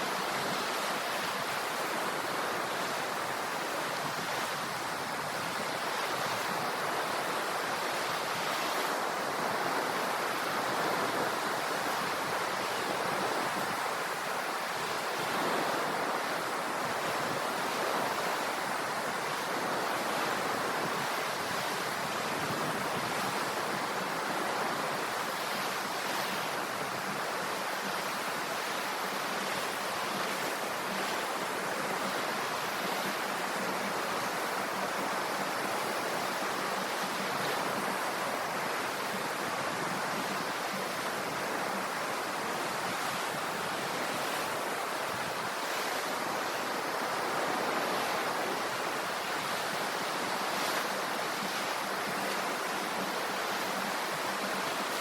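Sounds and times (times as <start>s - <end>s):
surf rushing: 0.0s - 55.0s.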